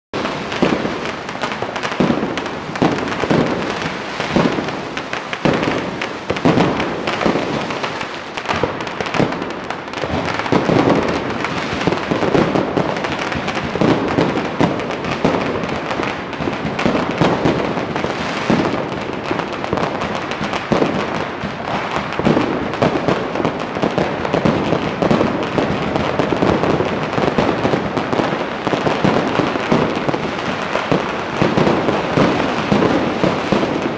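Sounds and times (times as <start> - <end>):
firecrackers and fireworks banging: 0.1 - 33.9.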